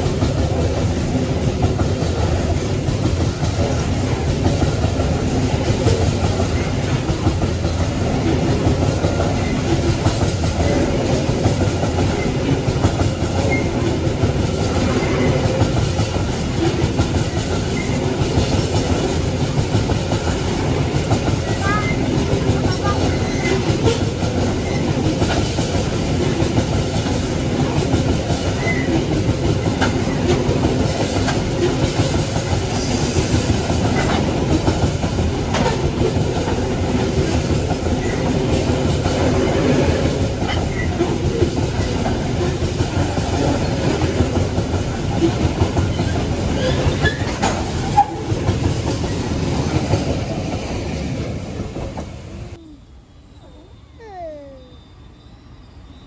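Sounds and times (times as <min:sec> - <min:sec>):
train wheels clattering over joints: 0:00.0 - 0:52.4.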